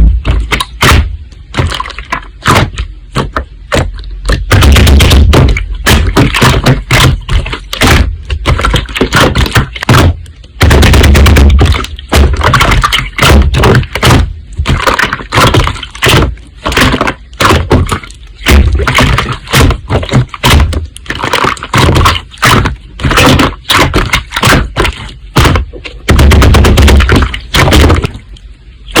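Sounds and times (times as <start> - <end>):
slime popping and crackling: 0.0 - 29.0.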